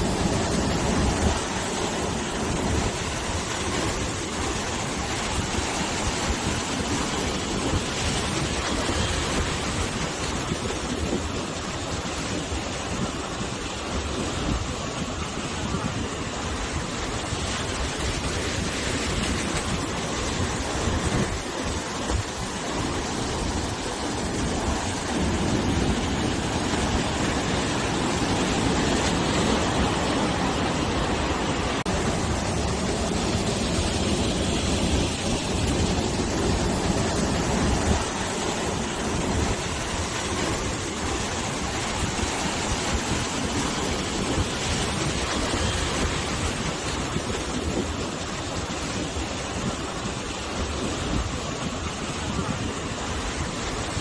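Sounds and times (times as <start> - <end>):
ocean waves washing on shore: 0.0 - 54.0
wind buffeting microphone: 0.0 - 54.0.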